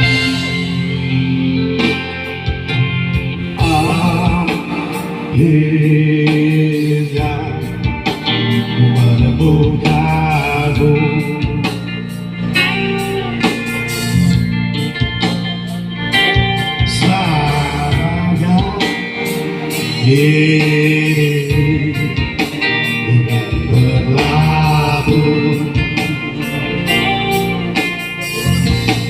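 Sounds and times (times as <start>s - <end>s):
instrumental accompaniment: 0.0s - 29.0s
person singing: 3.4s - 14.4s, 15.3s - 29.0s.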